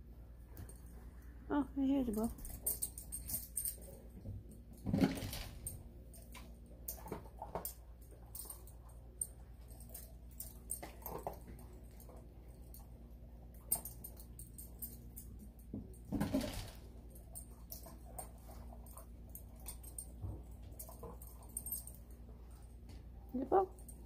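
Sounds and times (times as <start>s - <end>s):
collar tags jingling: 1.9s - 24.0s.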